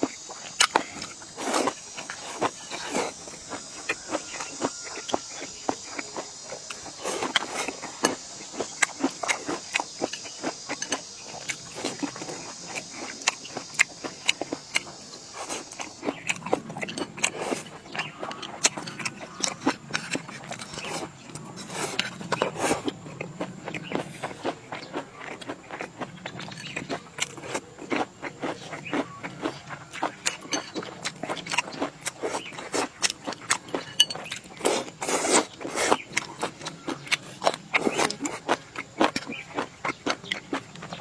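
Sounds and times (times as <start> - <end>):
person biting and chewing food: 0.0 - 41.0.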